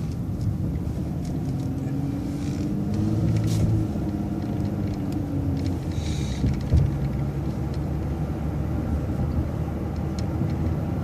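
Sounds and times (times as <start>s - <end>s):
bus engine drone: 0.0s - 11.0s
road rumble: 0.0s - 11.0s.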